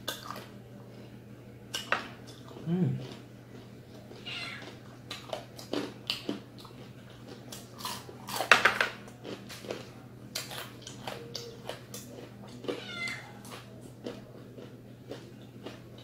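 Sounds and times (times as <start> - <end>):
crunchy chewing: 1.7 - 16.0.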